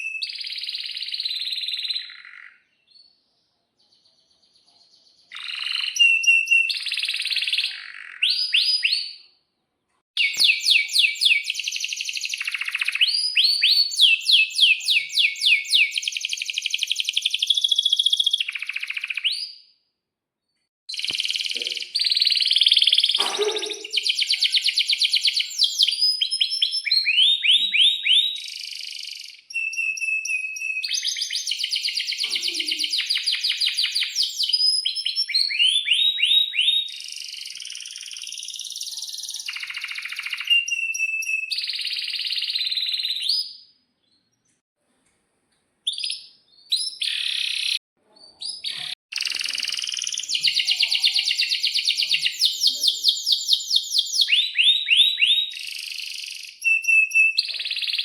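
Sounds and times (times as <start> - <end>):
canary singing trills and chirps: 0.0 - 9.4, 10.2 - 19.7, 20.9 - 44.4, 45.9 - 58.0.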